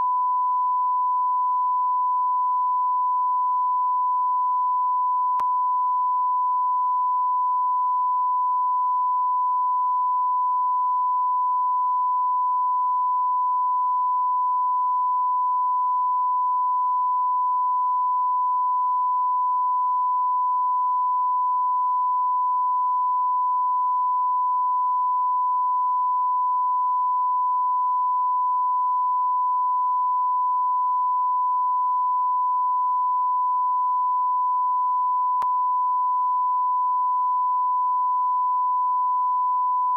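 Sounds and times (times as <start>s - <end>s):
continuous electronic beep tone: 0.0s - 39.9s.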